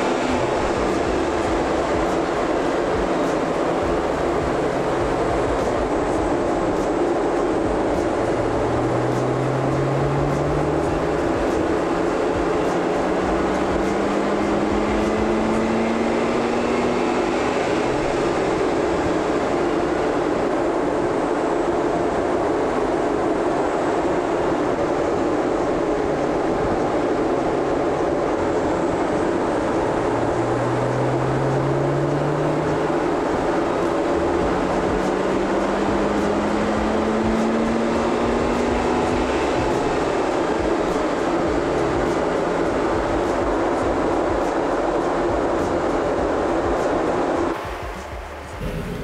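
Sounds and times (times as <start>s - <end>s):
rotary engine running under load: 0.0s - 49.0s
wheels turning dyno rollers: 0.0s - 49.0s.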